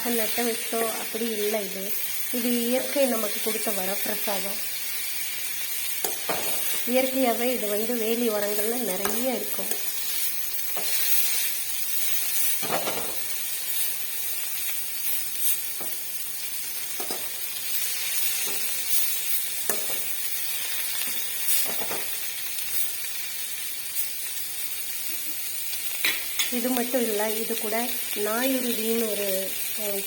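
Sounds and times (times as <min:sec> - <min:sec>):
leaves sizzling in oil: 0:00.0 - 0:30.0.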